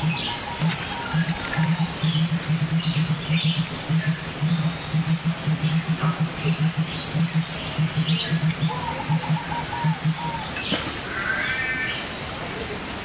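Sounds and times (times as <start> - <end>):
low pulsing: 0.0 - 10.5
wavering bird call: 0.0 - 12.0.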